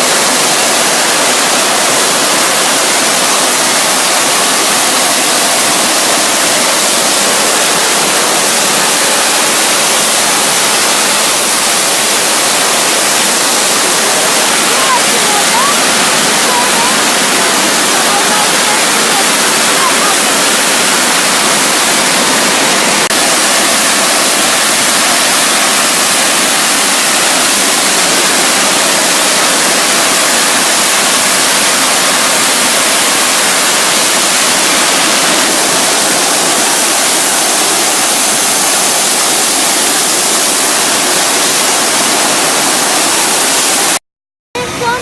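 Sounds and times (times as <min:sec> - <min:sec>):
factory machinery hissing: 0:00.0 - 0:44.0.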